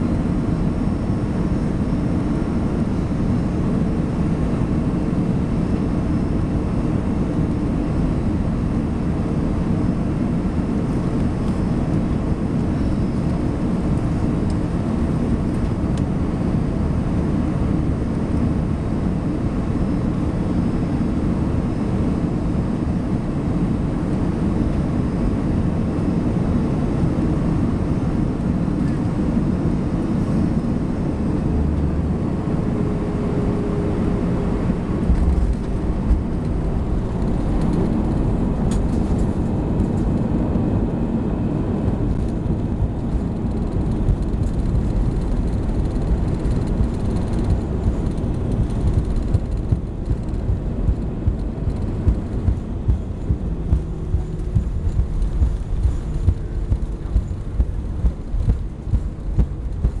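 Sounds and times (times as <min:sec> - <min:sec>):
airplane cabin rumble: 0:00.0 - 1:00.0.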